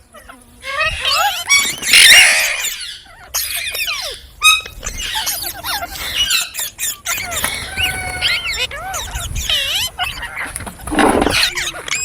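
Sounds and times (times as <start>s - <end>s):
parakeet chirping and squawking: 0.0s - 12.0s.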